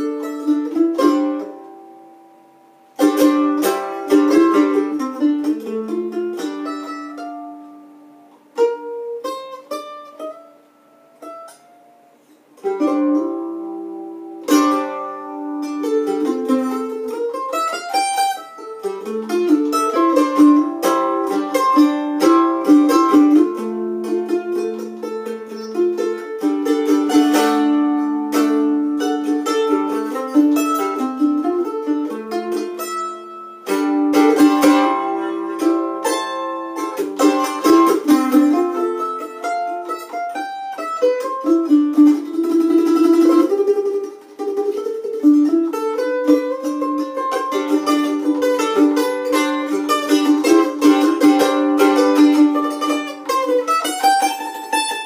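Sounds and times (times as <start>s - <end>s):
mandolin picked solo: 0.0s - 55.0s.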